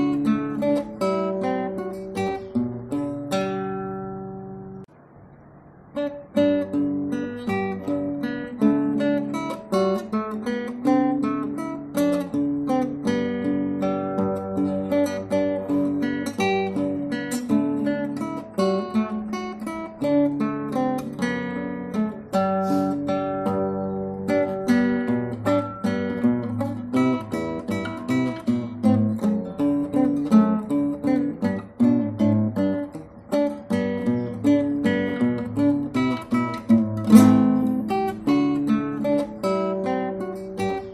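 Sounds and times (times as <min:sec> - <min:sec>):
acoustic guitar plucked and strummed: 0:00.0 - 0:40.9.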